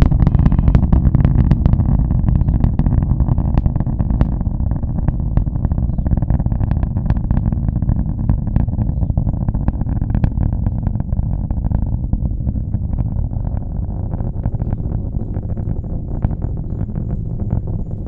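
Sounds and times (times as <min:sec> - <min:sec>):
distant rocket engine rumble: 0:00.0 - 0:18.0
rapid crackling pops: 0:00.0 - 0:18.0.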